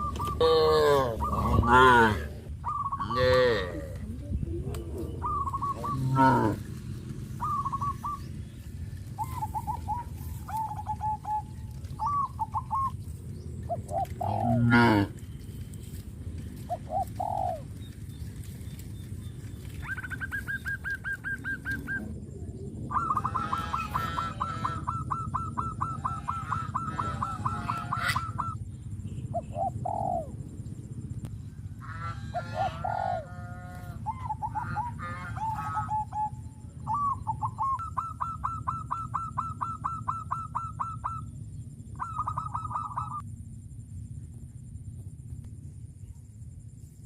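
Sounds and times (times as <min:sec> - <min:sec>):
birds calling repeated notes: 0:00.0 - 0:43.2
steady low rumble: 0:00.0 - 0:47.0.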